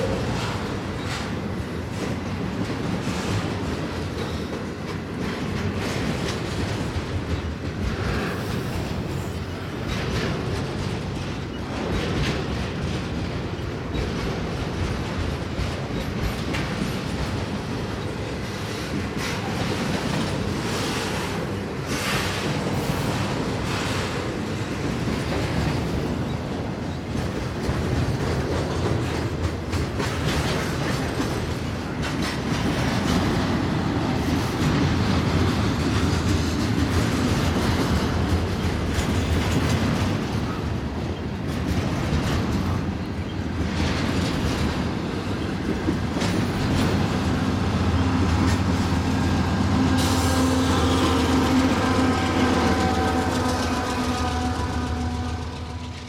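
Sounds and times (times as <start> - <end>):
diesel locomotive engine drone: 0.0 - 56.0
train cars rumbling and clattering: 0.0 - 56.0.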